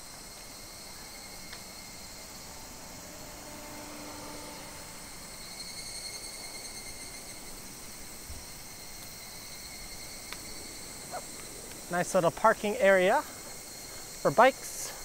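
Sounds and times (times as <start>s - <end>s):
faint pulsing insect trill: 0.0s - 15.0s
insects buzzing: 0.0s - 15.0s.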